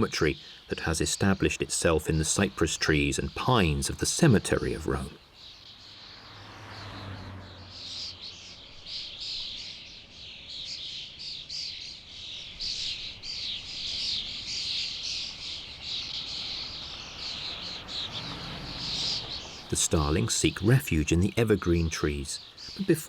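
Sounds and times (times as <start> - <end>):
flock of starlings chattering: 0.0 - 23.0.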